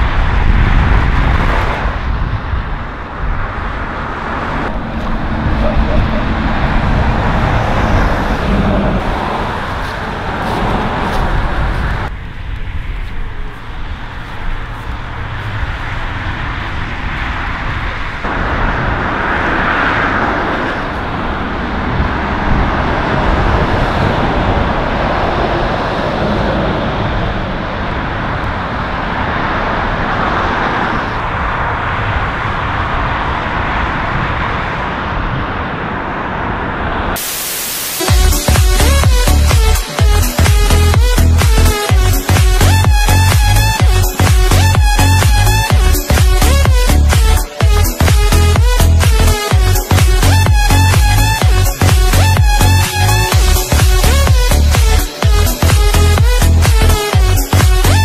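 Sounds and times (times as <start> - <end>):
road traffic rushing: 0.0 - 58.0.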